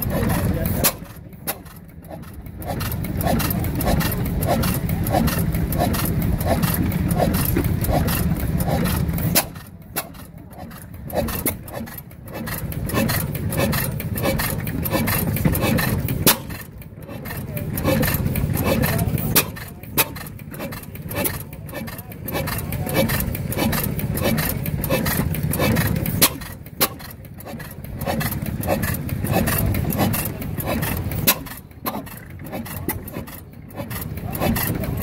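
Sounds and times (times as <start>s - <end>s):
stationary engine firing beats: 0.0s - 35.0s
engine valve gear clicking: 0.2s - 35.0s.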